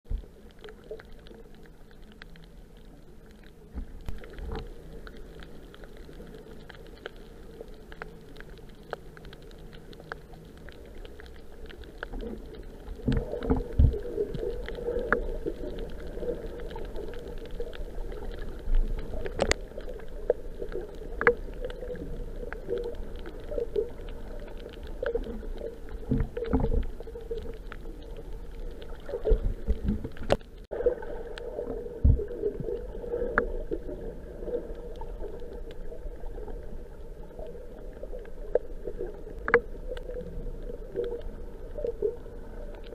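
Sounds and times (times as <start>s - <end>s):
underwater clicks: 0.1s - 35.8s, 37.4s - 42.9s
underwater rumble of moving water: 0.1s - 42.9s.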